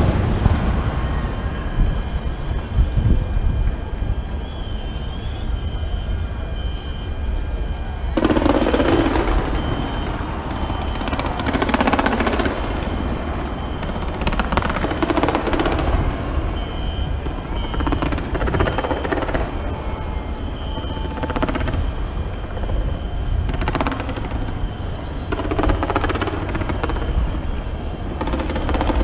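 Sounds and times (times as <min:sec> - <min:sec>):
fireworks crackling bangs: 0:00.0 - 0:29.0
steady low rumble: 0:00.0 - 0:29.0.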